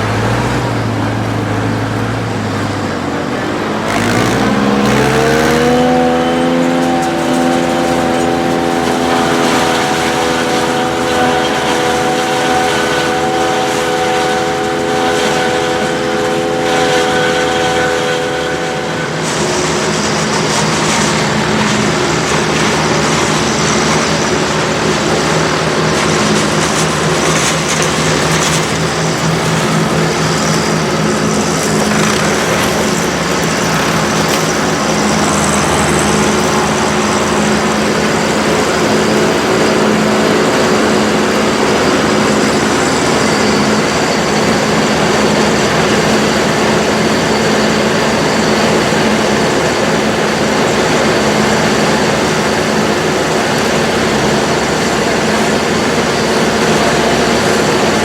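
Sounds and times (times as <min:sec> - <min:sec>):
tractor and harvester drone: 0:00.0 - 0:58.0.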